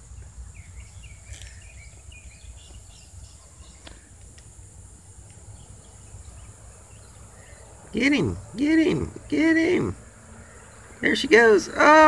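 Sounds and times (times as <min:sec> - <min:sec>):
bird chirps: 0:00.0 - 0:04.4, 0:05.3 - 0:12.0
insects droning: 0:00.0 - 0:12.0.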